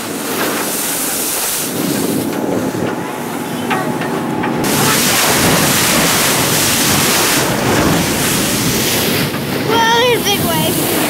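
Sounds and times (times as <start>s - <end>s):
water splashing along boat hull: 0.0s - 11.0s
wind buffeting microphone: 0.0s - 11.0s.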